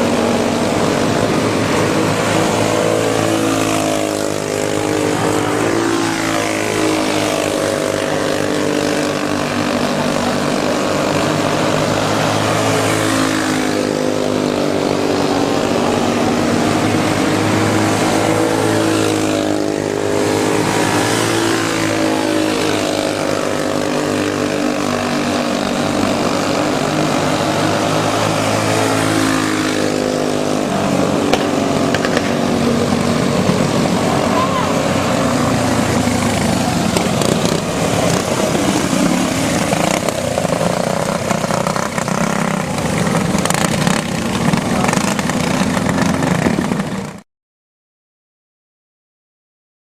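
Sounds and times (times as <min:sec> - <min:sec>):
go-kart engines racing: 0:00.0 - 0:47.2.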